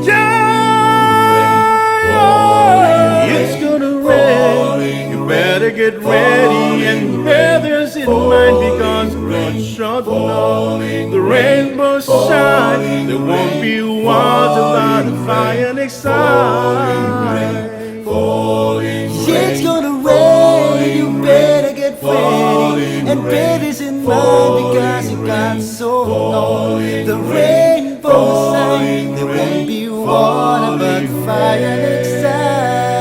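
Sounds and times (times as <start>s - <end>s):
a cappella group singing harmony: 0.0s - 33.0s.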